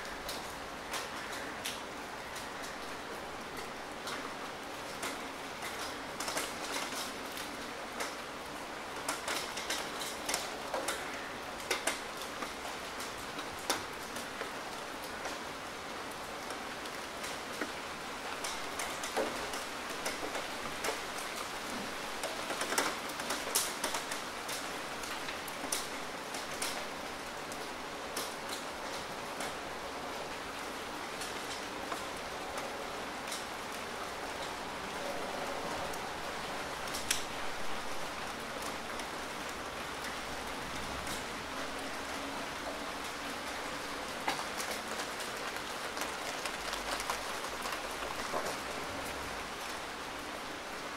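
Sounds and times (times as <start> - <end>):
raindrop ticks and splats: 0.0 - 50.0
rain on hard surface: 0.0 - 50.9.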